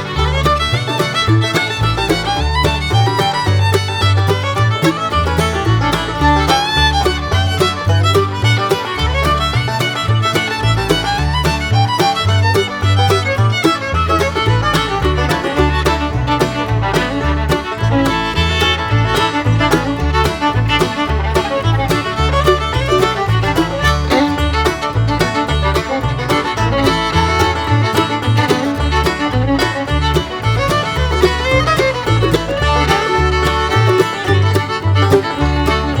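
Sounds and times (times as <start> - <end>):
bluegrass music with fiddle and banjo: 0.0 - 36.0.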